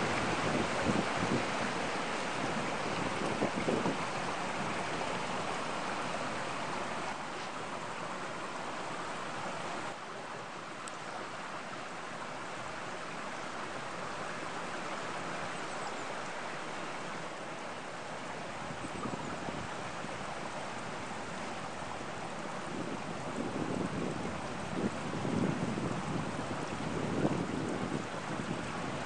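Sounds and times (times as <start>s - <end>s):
stream rushing water: 0.0s - 29.0s.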